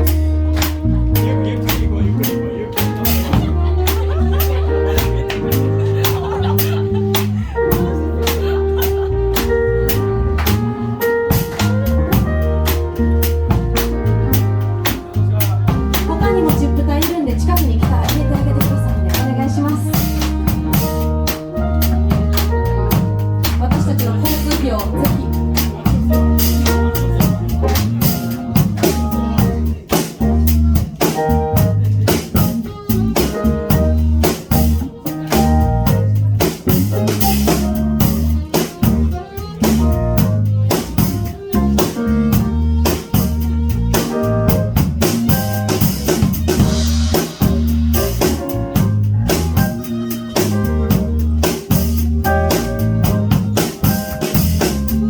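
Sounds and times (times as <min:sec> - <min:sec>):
drum kit rimshots and bass drum: 0:00.0 - 0:55.0
heavy bass line: 0:00.0 - 0:55.0
jazz-funk band playing: 0:00.0 - 0:55.0.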